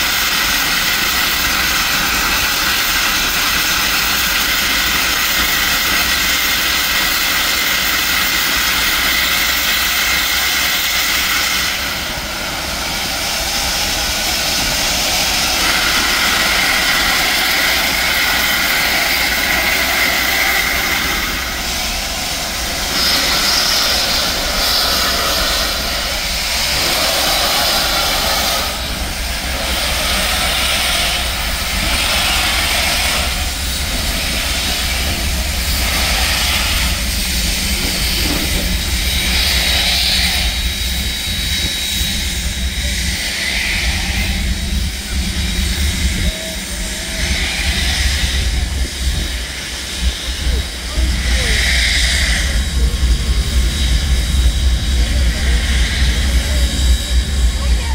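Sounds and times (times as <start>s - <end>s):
steam locomotive hissing steam: 0.0s - 57.9s.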